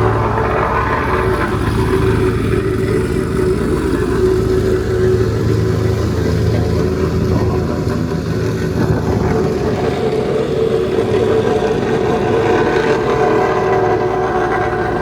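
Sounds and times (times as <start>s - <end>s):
motor vehicle running: 0.0s - 15.0s.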